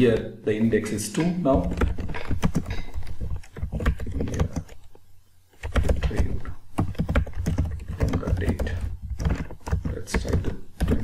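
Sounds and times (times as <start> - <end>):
computer keyboard typing: 1.5 - 11.0.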